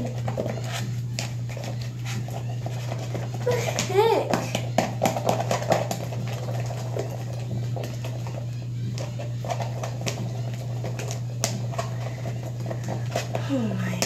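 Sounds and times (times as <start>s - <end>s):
pencil scraping plastic tub: 0.0s - 14.0s
steady low hum: 0.0s - 14.0s.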